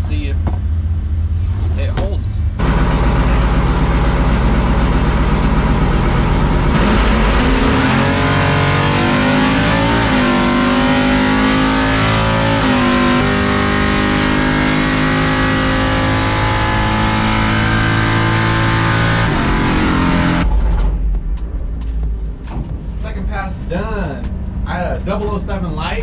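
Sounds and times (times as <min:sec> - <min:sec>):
truck engine at full throttle: 0:00.0 - 0:20.9.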